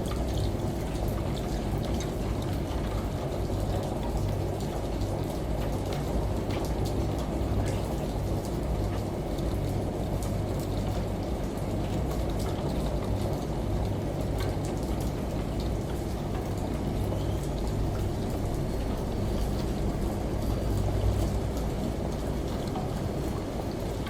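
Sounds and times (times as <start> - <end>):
sharp drips and patter: 0.0 - 24.0
steady rain: 0.0 - 24.0
washing machine humming: 0.0 - 24.0.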